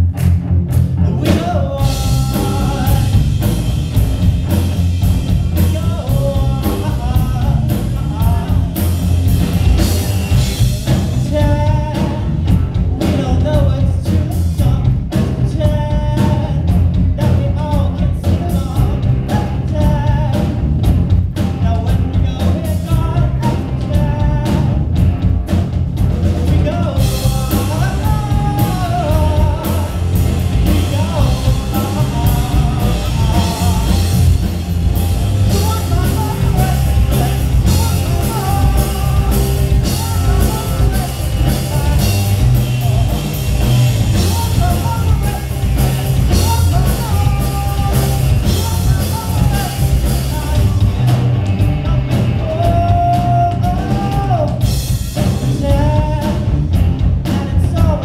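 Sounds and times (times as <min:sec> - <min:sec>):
drum kit: 0:00.0 - 0:58.0
electric guitars: 0:00.0 - 0:58.0
man singing: 0:00.9 - 0:20.7, 0:21.4 - 0:25.1, 0:26.4 - 0:58.0.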